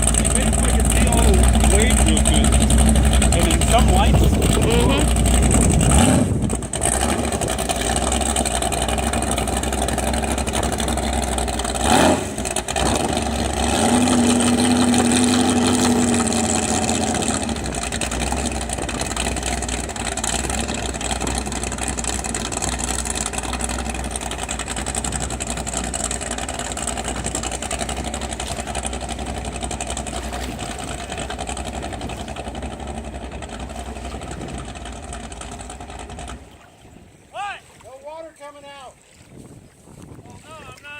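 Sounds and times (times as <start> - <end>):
boat engine running: 0.0 - 40.9.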